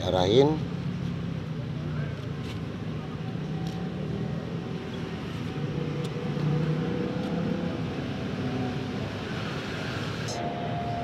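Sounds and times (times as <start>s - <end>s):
vehicle engine humming: 0.6s - 11.0s.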